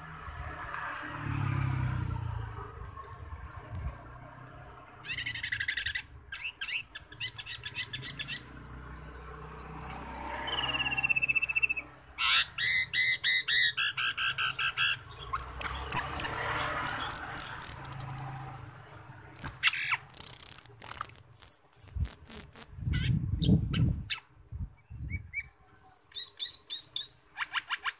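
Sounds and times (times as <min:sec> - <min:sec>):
starling singing: 0:01.3 - 0:24.3, 0:24.9 - 0:27.9.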